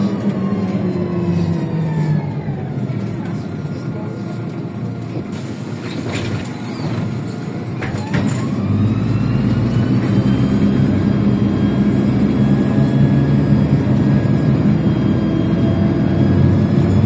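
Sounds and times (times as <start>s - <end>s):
bus engine and drivetrain whine: 0.0s - 17.0s.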